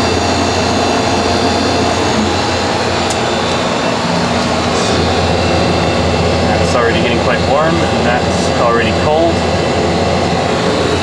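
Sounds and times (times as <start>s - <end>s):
fan air rushing: 0.0s - 11.0s
low compressor hum: 0.0s - 11.0s.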